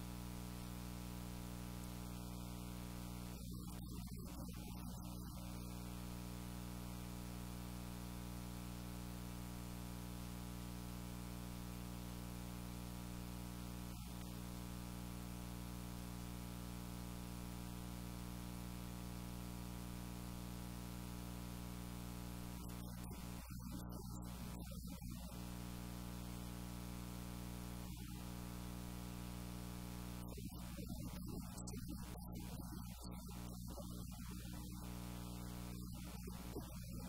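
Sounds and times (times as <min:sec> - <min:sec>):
constant hiss: 0:00.0 - 0:37.0
electrical mains hum: 0:00.0 - 0:37.0.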